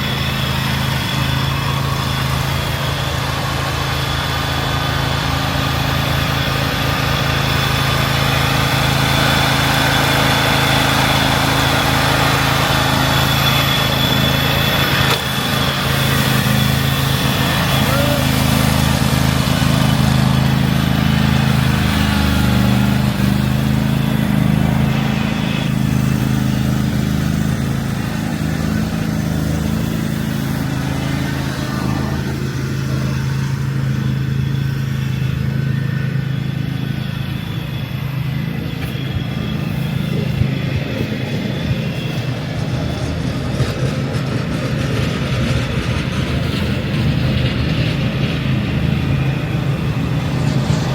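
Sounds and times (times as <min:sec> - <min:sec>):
engine humming: 0:00.0 - 0:50.9
street noise: 0:00.0 - 0:50.9.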